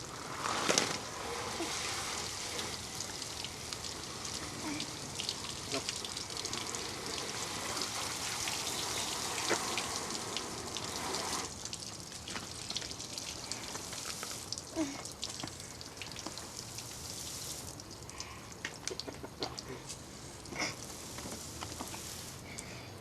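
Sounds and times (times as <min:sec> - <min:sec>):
water splashing and dripping: 0:00.0 - 0:22.8
steady hiss: 0:00.0 - 0:23.0.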